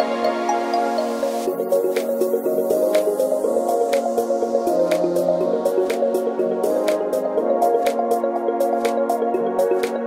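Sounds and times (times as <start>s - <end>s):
soft melodic music: 0.0s - 10.0s.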